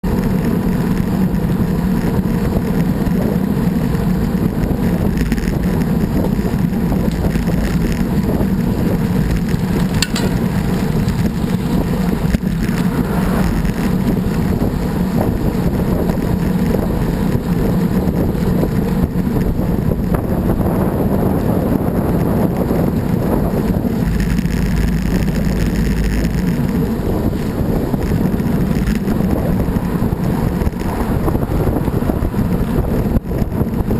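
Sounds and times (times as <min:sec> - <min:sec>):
low rumble: 0:00.0 - 0:33.9
wind buffeting microphone: 0:00.0 - 0:33.9.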